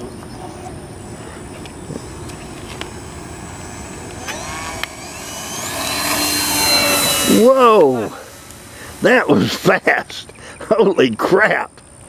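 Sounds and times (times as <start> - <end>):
rising motor whine: 0.0 - 10.4
model plane motor and propeller: 0.0 - 12.0.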